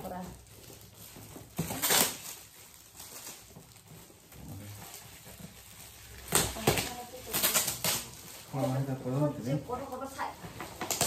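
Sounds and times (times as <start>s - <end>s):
foil wrap crinkling: 0.0s - 11.0s.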